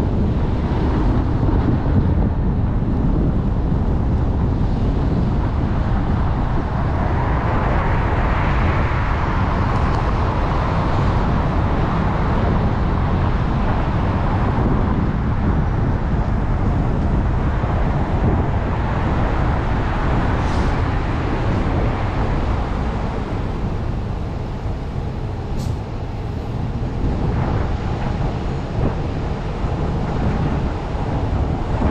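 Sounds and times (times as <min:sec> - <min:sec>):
car road noise rumble: 0:00.0 - 0:31.9.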